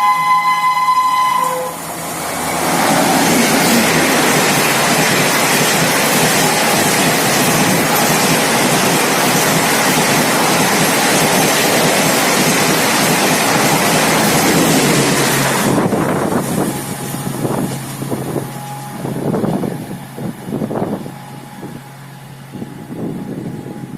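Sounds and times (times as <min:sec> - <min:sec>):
train rushing past: 0:00.0 - 0:23.9
uneven train rumble: 0:00.0 - 0:23.9.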